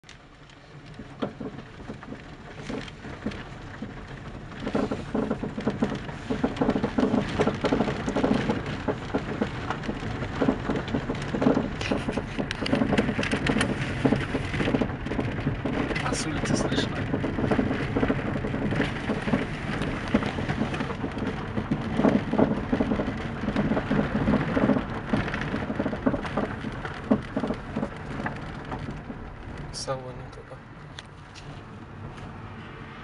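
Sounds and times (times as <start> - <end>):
suspension knocking and clattering: 0.0 - 32.3
low rumble: 0.3 - 33.0.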